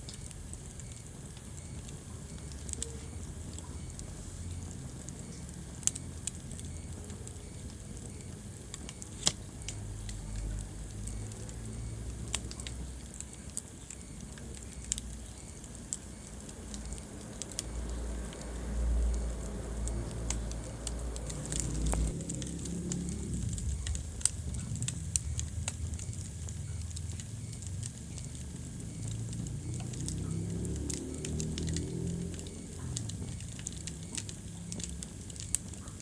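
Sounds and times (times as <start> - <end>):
fire crackling and popping: 0.0 - 36.0
fire flames rumbling: 0.0 - 36.0.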